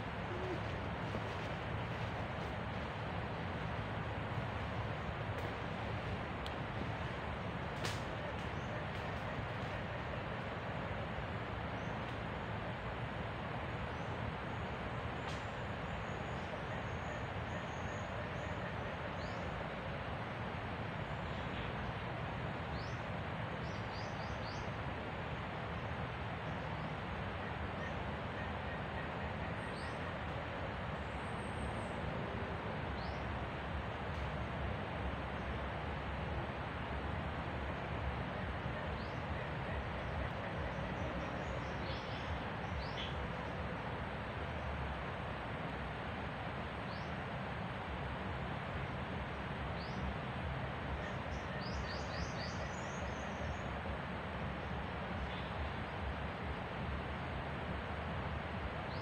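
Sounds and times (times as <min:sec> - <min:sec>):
forest background rumble: 0:00.0 - 0:59.0
steady background hiss: 0:00.0 - 0:59.0.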